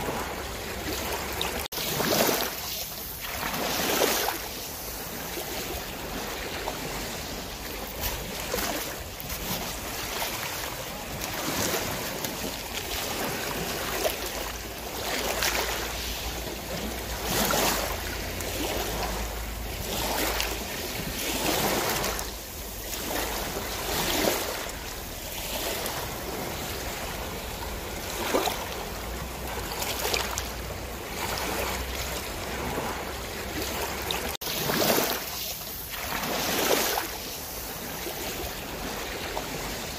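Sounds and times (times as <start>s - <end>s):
sea water splashing: 0.0s - 39.9s.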